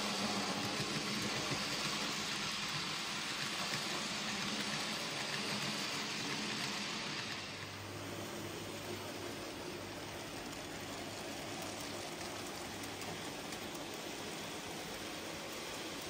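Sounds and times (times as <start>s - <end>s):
model train wheels rumbling on rails: 0.0s - 16.0s.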